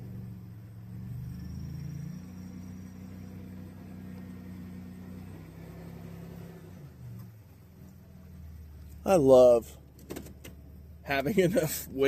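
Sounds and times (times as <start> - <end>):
minivan engine running low speed: 0.0 - 12.0.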